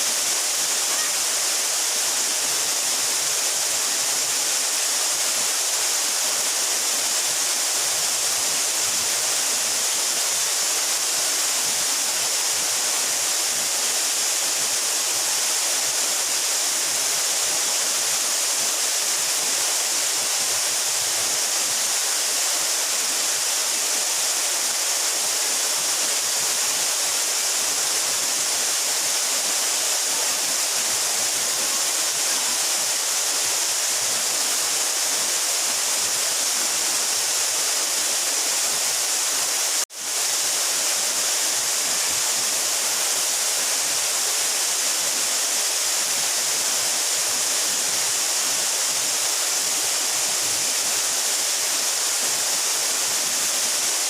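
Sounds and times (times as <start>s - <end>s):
waterfall splashing: 0.0s - 54.0s.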